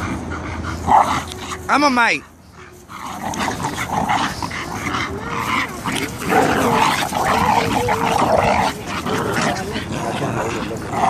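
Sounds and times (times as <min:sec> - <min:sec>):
dogs growling: 0:00.0 - 0:11.0.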